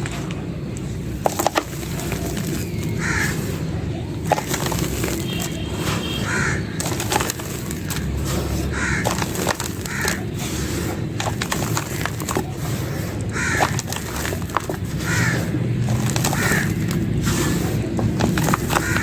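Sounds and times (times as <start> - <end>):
clay and stone crunching: 0.0 - 19.0.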